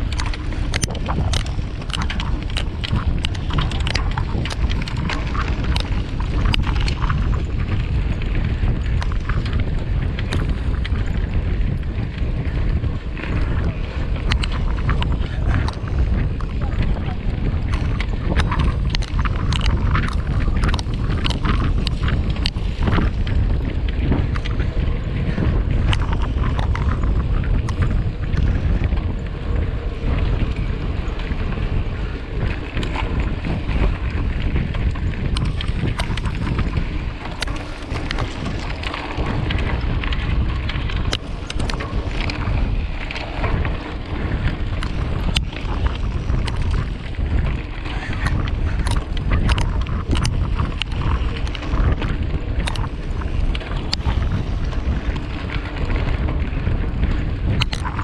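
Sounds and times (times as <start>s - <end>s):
bike clicking and rattling: 0.0s - 58.0s
wind buffeting microphone: 0.0s - 58.0s.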